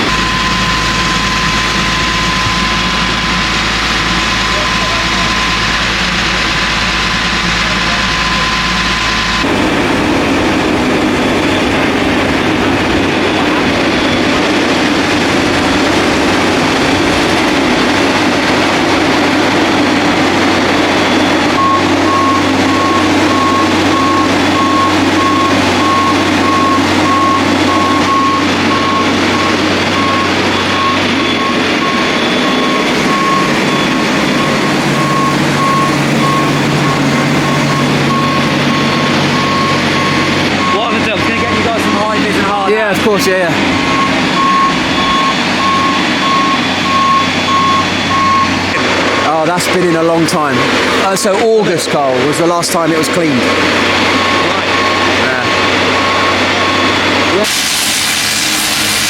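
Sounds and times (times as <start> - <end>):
boat hoist engine running: 0.0 - 57.4
warning beeper beeping: 0.0 - 57.8.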